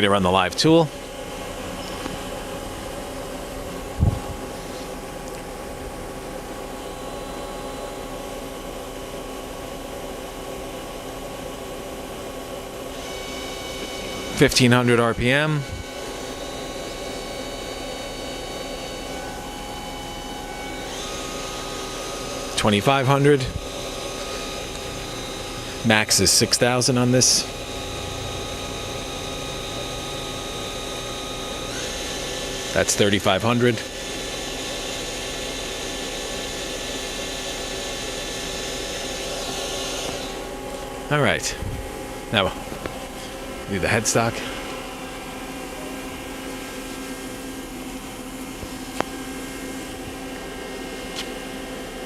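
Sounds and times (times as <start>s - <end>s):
machine hum: 0.0s - 52.0s
steady whining tones: 0.0s - 52.0s
lathe tool spinning: 0.8s - 52.0s.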